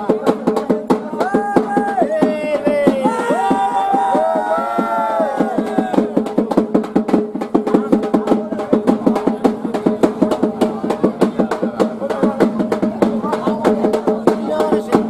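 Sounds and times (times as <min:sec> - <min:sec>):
drums beaten in fast rhythm: 0:00.0 - 0:15.0.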